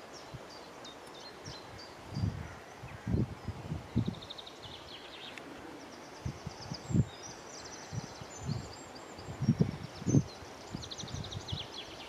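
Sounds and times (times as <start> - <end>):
wind buffeting microphone: 1.4 - 11.8.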